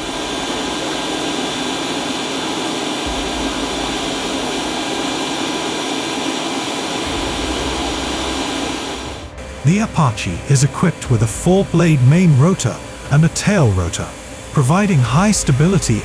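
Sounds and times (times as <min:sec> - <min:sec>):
helicopter turbine running: 0:00.0 - 0:16.0.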